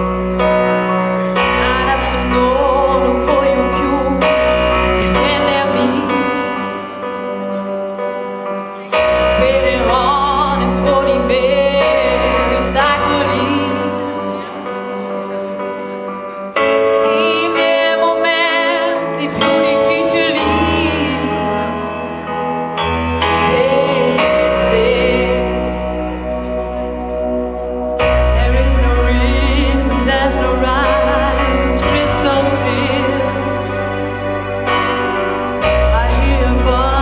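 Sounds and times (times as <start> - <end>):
sustained accompaniment: 0.0 - 37.0
woman singing with vibrato: 1.3 - 7.7, 8.9 - 15.3, 16.9 - 27.0, 28.0 - 37.0.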